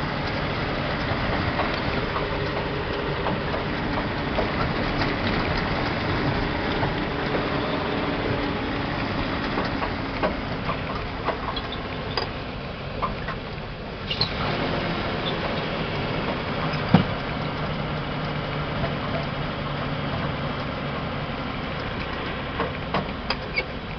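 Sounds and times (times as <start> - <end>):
cab rattling: 0.0 - 23.9
truck engine running: 0.0 - 23.9.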